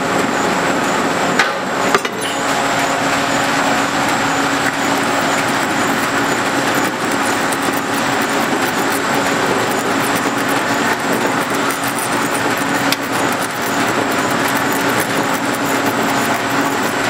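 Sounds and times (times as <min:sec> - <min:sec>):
machine hum: 0:00.0 - 0:17.0
tool scraping metal: 0:01.4 - 0:17.0.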